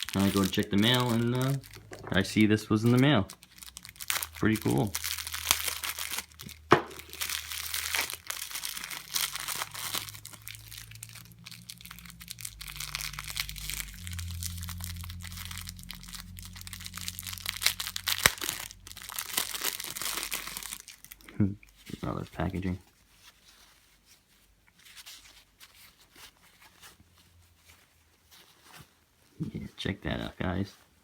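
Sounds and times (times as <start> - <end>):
packaging crinkling and tearing: 0.0 - 27.0.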